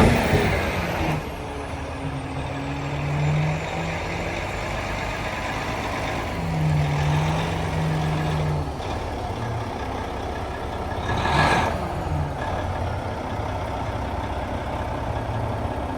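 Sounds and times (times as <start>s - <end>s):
diesel truck engine running: 0.0s - 15.9s.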